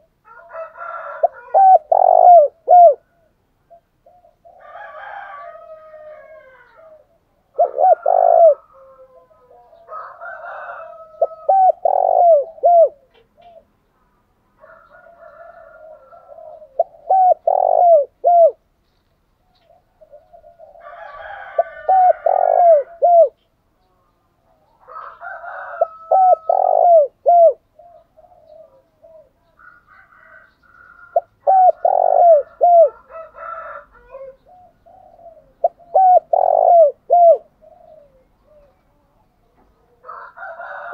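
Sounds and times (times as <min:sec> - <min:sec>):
doves cooing: 0:00.0 - 0:13.8, 0:14.6 - 0:18.6, 0:19.4 - 0:23.5, 0:24.6 - 0:40.9.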